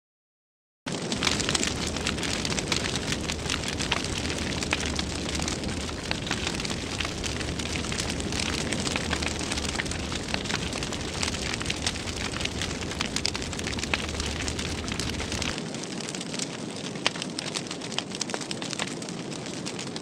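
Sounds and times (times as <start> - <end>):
fire crackling and popping: 0.9 - 20.0
fire roaring: 0.9 - 20.0.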